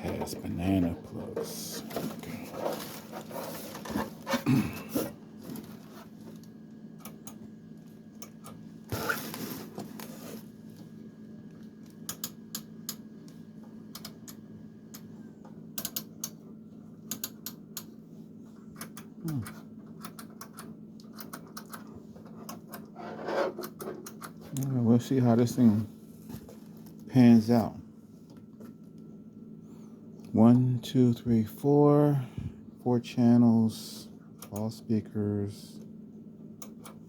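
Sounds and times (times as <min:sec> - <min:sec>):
faint electrical hum: 0:00.0 - 0:37.0.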